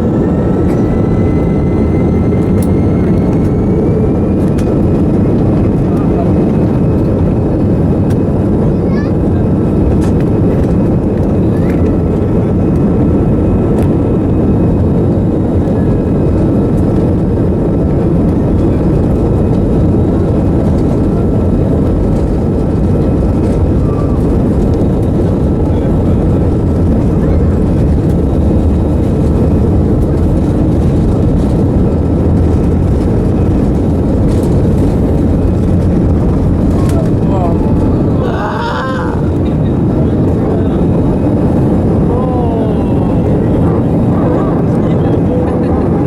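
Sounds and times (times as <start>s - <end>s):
airliner cabin engine drone: 0.0s - 46.0s.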